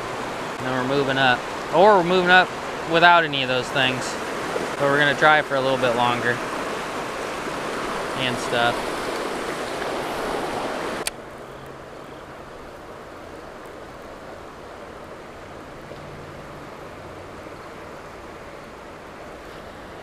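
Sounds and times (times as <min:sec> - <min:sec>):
flowing creek water: 0:00.0 - 0:20.0
rushing spillway water: 0:00.0 - 0:20.0.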